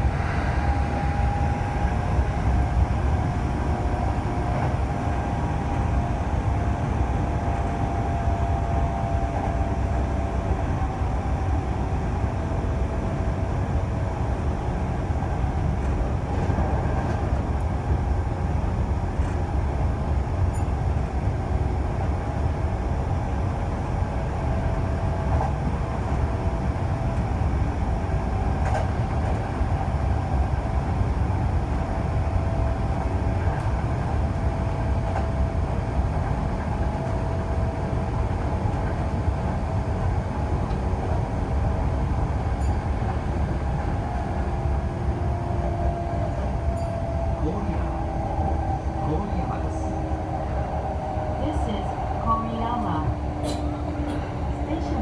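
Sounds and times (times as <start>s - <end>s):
rumble of wheels on rails: 0.0s - 55.0s.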